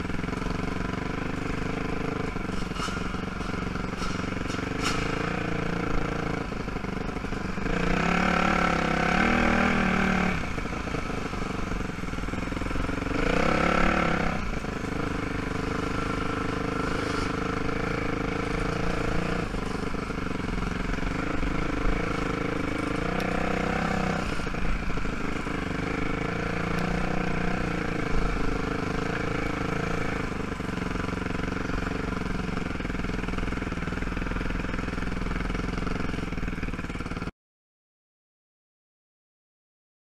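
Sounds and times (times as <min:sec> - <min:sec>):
knocks and rattles over ground: 0:00.0 - 0:37.3
quad engine running: 0:00.0 - 0:37.3.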